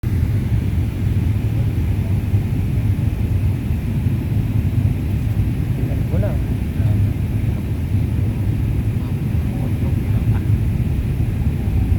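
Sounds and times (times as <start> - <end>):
airliner cabin engine rumble: 0.0 - 11.9.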